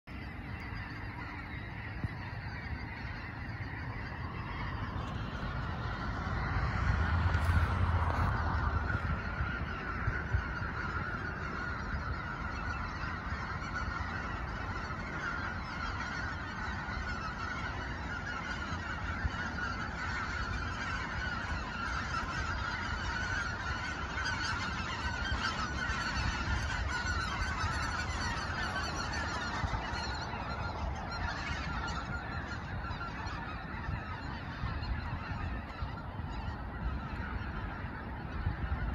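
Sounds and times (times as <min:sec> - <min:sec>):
flock of geese calling: 0:00.0 - 0:38.9.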